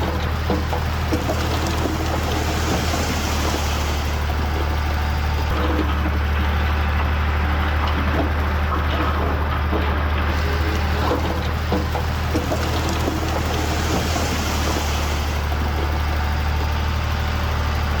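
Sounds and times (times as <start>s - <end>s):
heavy diesel machine engine: 0.0s - 18.0s.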